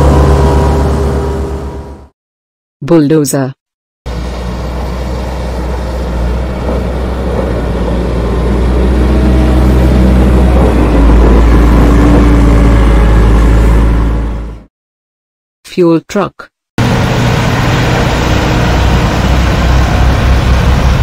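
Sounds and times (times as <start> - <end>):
diesel engine rumbling under load: 0.0 - 2.1, 4.1 - 14.7, 16.8 - 21.0.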